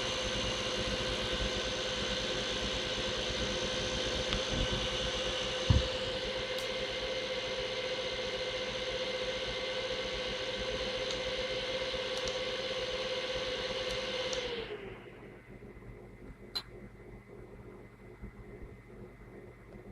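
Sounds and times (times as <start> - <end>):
computer fan whirring: 0.0 - 19.9.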